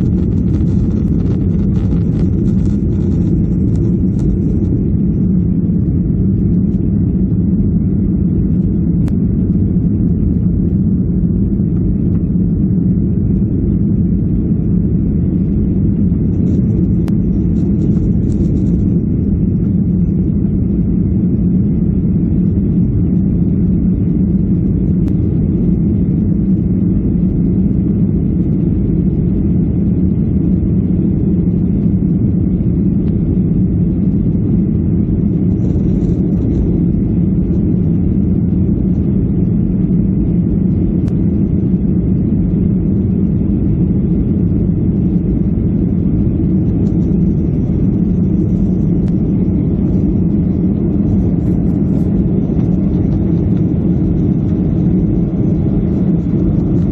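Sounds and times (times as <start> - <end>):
jet engines droning in cabin: 0.0 - 56.9.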